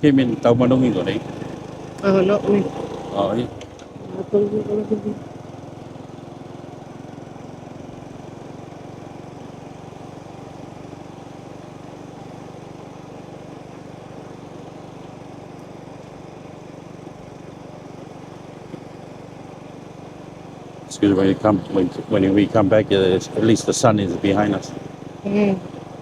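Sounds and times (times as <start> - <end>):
motorbike engine droning: 0.0 - 26.0.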